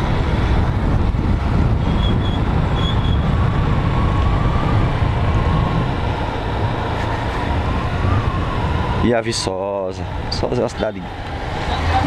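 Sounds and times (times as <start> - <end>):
motorcycle engine hum: 0.0 - 12.0
wind rumble on microphone: 0.0 - 12.0.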